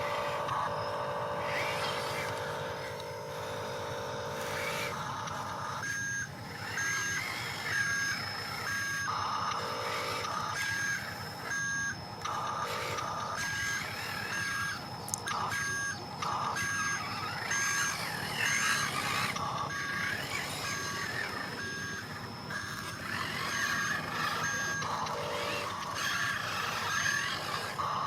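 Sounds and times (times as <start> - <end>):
electronic reversing beeps: 0.0 - 28.0
small electric motors whirring: 0.0 - 28.0.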